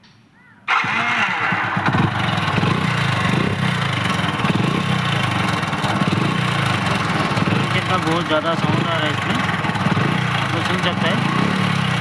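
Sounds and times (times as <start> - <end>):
motorcycle engine running: 0.7 - 12.0.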